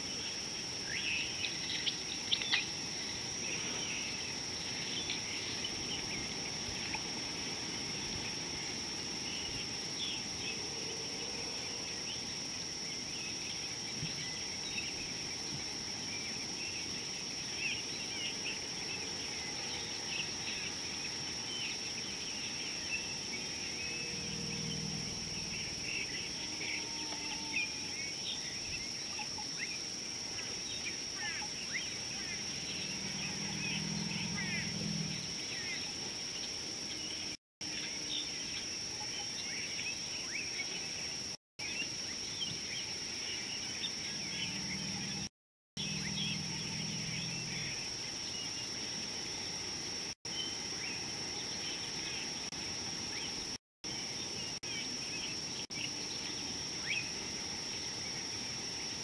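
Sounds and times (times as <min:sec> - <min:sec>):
insects high-pitched tones: 0:00.0 - 0:59.0.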